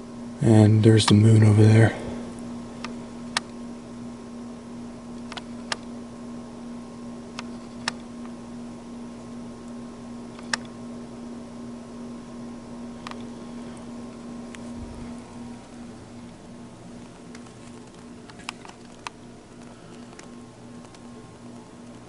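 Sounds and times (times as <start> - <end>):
furnace blower humming: 0.0 - 22.0.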